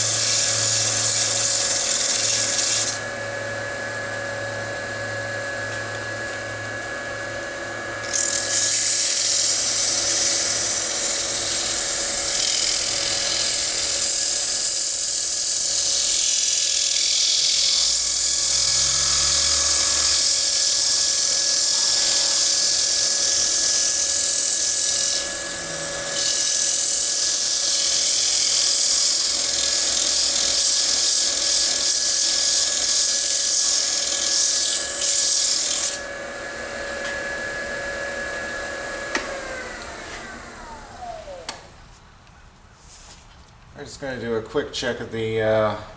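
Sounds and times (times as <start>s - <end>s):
wood lathe whine: 0.0s - 41.9s.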